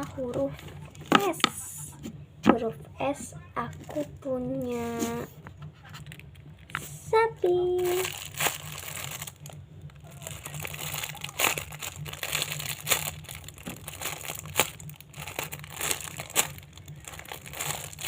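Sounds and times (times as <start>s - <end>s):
crinkling handling noise: 0.0s - 18.0s
steady low hum: 0.0s - 18.0s.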